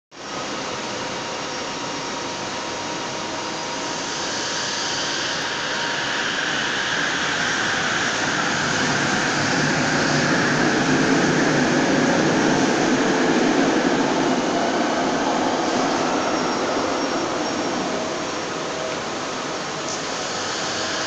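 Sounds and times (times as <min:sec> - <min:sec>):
light-rail train whirring: 0:00.2 - 0:21.0
mid-pitched whine: 0:00.2 - 0:21.0.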